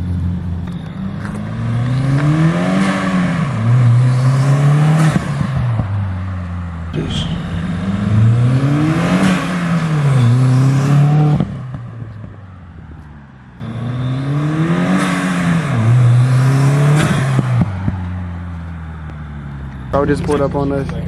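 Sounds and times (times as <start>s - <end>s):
turbocharged car engine revving: 0.0s - 12.3s, 13.6s - 21.0s.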